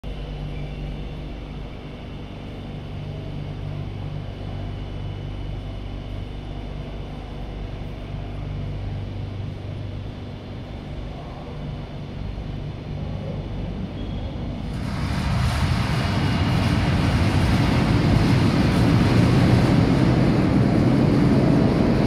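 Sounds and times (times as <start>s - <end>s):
trains rumbling in metro station: 0.0s - 22.0s.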